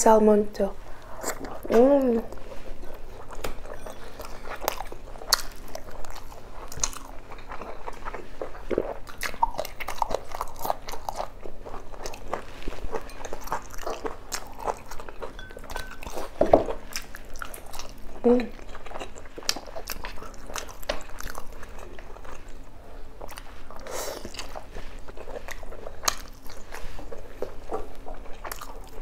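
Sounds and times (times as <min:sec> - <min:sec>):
food crunching: 0:01.0 - 0:29.0
person chewing and biting food: 0:01.0 - 0:29.0.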